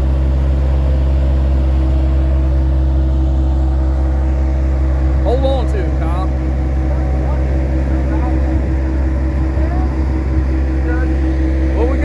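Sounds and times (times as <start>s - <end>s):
loader engine humming: 0.0s - 12.0s.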